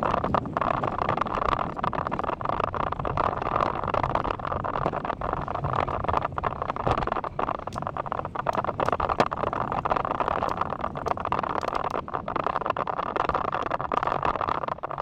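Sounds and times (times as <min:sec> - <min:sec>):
bicycle rattling and clicking: 0:00.0 - 0:15.0
wind rushing over microphone: 0:00.0 - 0:15.0.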